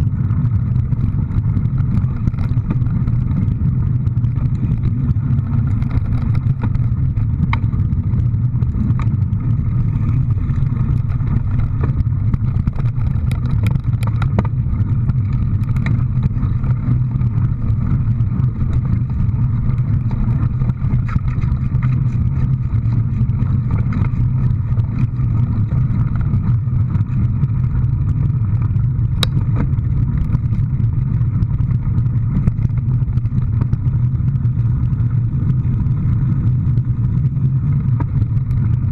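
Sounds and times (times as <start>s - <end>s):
motor vehicle humming: 0.0s - 38.9s
sharp clicks and rattles: 0.0s - 38.9s.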